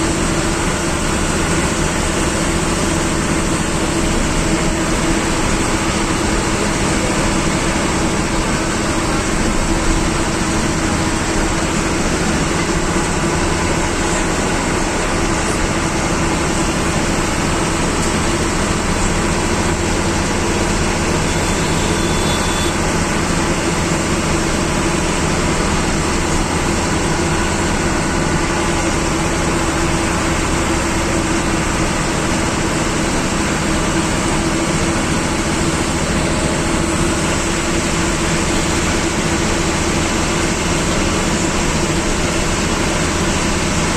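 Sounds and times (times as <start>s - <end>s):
bus diesel engine running: 0.0s - 43.9s
road noise: 0.0s - 43.9s.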